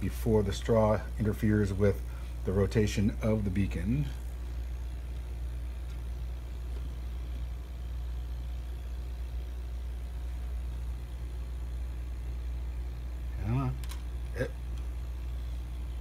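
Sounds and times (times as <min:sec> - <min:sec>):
air compressor motor humming: 0:00.0 - 0:16.0.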